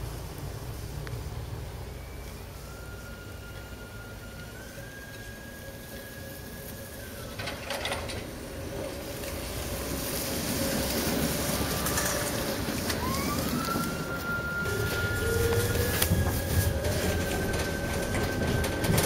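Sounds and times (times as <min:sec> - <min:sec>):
tram rumbling past on track: 0:00.0 - 0:19.0.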